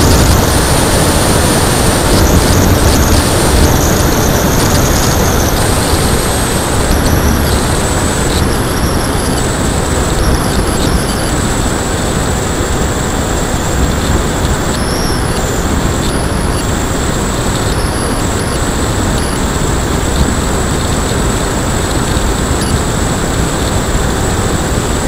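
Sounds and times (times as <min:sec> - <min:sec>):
electric motor turning propeller: 0:00.0 - 0:25.0
rush of wind: 0:00.0 - 0:25.0
thin high whine: 0:00.0 - 0:25.0.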